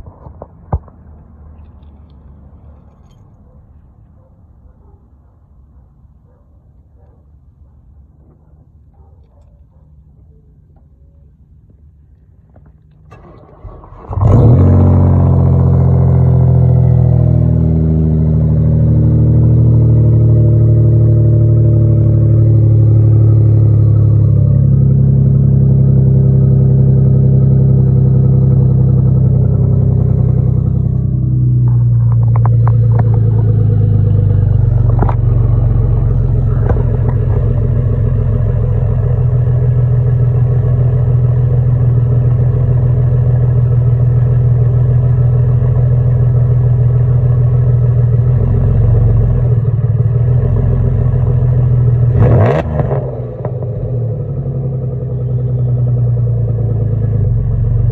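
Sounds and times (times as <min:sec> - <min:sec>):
car engine starting and idling: 0:11.6 - 0:57.9.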